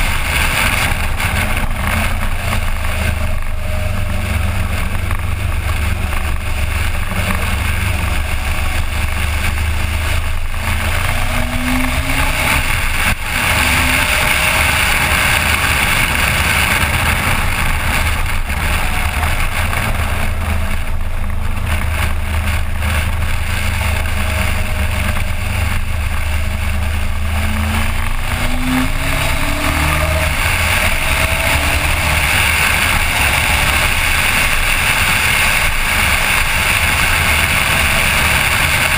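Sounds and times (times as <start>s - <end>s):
faint motorcycle engine: 0.0s - 38.9s.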